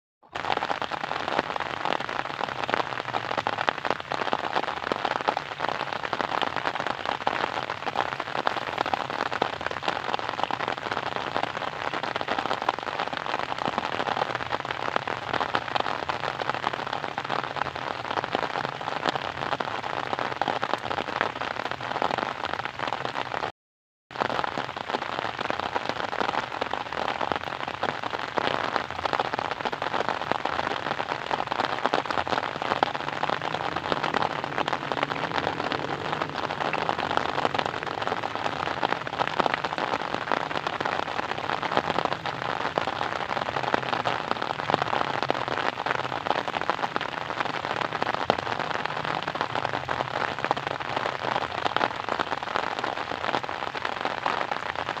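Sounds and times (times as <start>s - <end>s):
steady rain falling: 0.2s - 23.5s, 24.1s - 55.0s.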